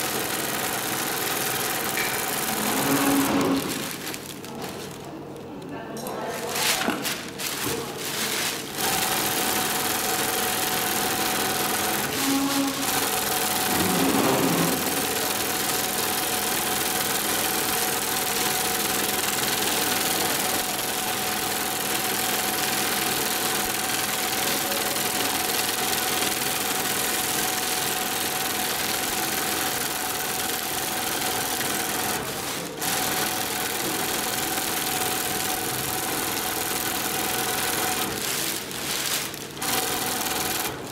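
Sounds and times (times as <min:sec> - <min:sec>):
industrial sewing machine whine: 0:00.0 - 0:04.9, 0:08.6 - 0:40.9.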